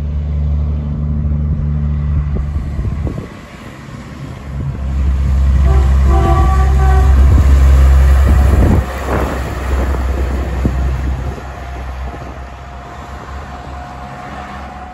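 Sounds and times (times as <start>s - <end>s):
diesel truck engine rumbling: 0.0s - 14.9s.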